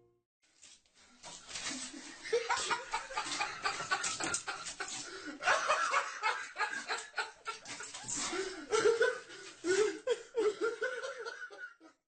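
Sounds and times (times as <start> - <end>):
people laughing: 1.7 - 12.0.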